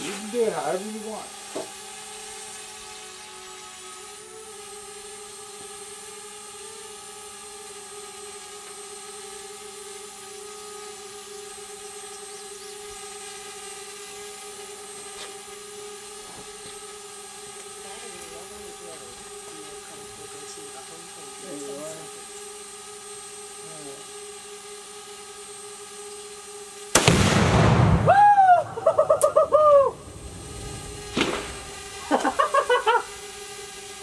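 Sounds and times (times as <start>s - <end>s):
drone propellers humming: 0.0s - 34.0s.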